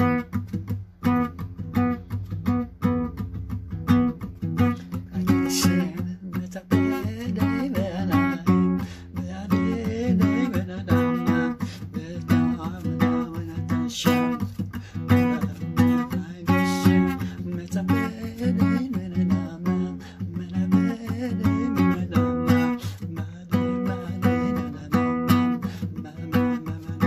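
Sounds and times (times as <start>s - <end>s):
acoustic guitar chords: 0.0s - 27.0s.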